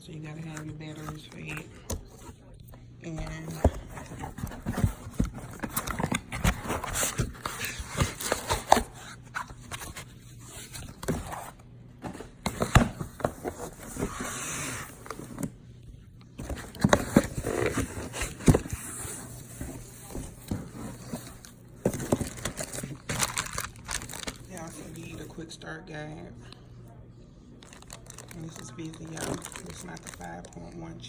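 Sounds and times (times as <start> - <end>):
plastic and paper rustling: 0.2 - 15.6, 16.4 - 25.4, 27.6 - 30.8.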